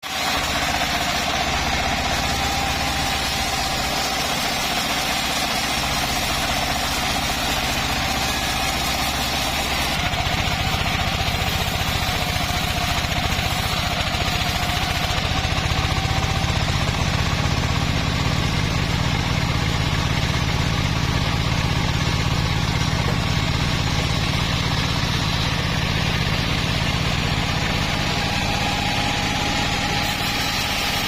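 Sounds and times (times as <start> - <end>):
engine-driven bandsaw mill running: 0.0 - 31.0.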